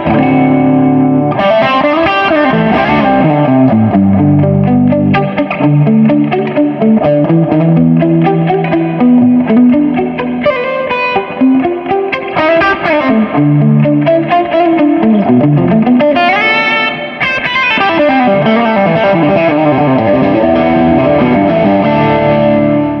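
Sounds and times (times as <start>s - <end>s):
overdriven electric guitar lead: 0.0s - 23.0s.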